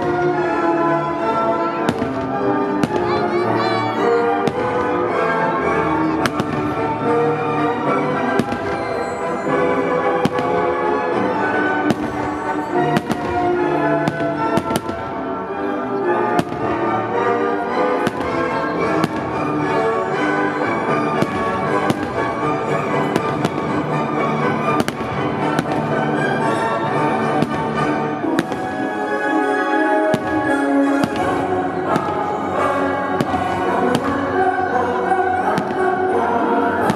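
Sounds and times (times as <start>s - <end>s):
fireworks bursting with bangs: 0.0s - 36.9s
music: 0.0s - 36.9s.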